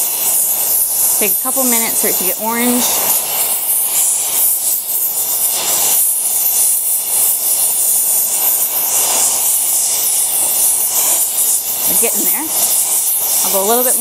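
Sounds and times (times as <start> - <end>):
cutting torch flame hissing: 0.0 - 14.0.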